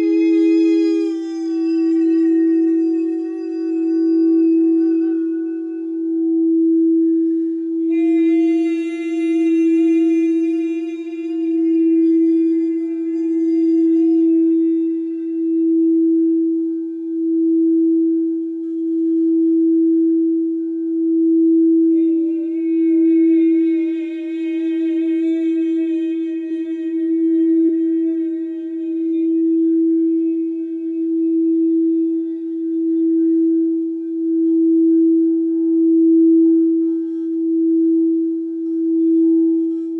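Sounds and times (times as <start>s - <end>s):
person singing wavering tone: 0.0s - 39.9s
singing bowl sustained tone: 0.0s - 39.9s.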